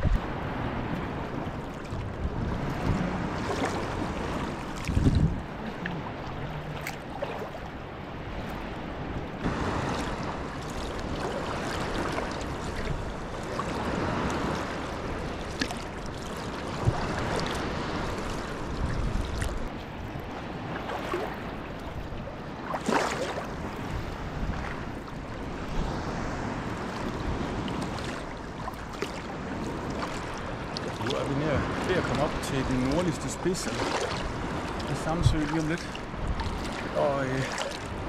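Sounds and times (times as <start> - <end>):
paddle blades splashing: 0.0 - 38.0
water sloshing against hull: 0.0 - 38.0.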